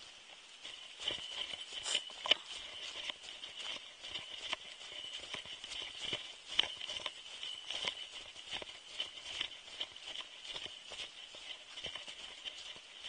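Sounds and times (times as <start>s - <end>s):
footsteps crunching in snow: 0.5s - 13.0s.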